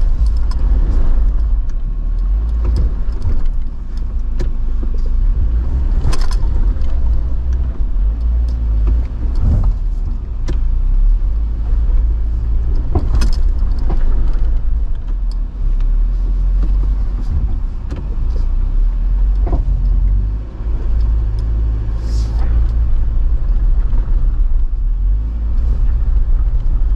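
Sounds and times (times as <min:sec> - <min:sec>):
low engine rumble: 0:00.0 - 0:26.9.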